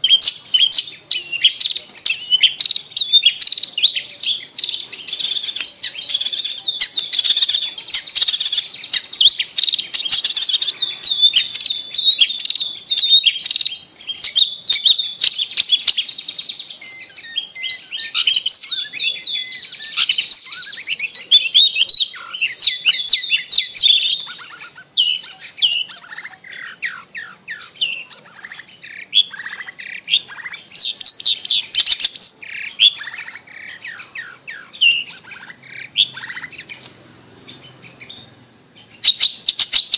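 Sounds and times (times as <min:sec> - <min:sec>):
bird song chatter: 0:00.0 - 0:39.9.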